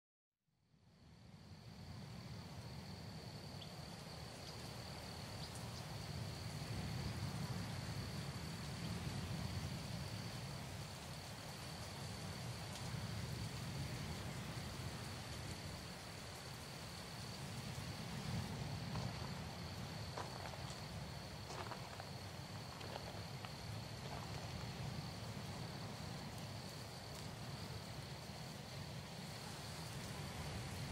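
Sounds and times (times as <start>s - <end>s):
crickets trilling: 1.0s - 30.9s.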